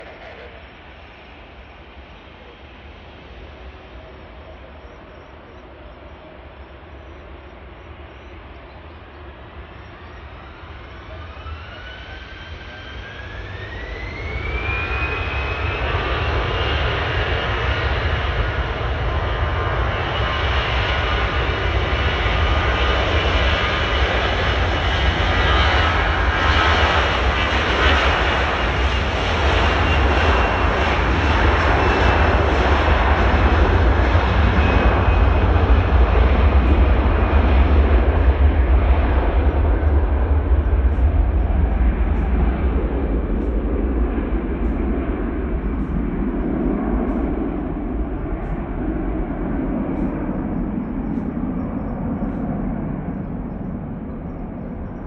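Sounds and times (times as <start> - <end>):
jet engines spooling up: 0.0 - 4.8, 7.2 - 55.0.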